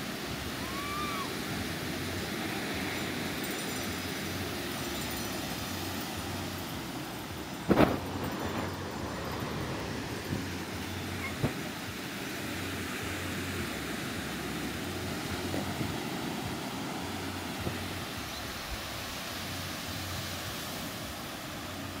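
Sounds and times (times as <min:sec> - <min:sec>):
surf breaking on beach: 0:00.0 - 0:22.0
wind buffeting microphone: 0:00.2 - 0:19.2.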